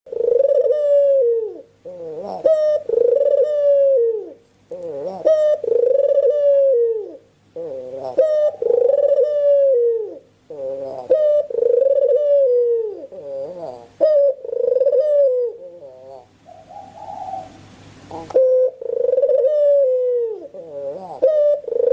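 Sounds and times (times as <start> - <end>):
dove cooing: 0.1 - 21.9.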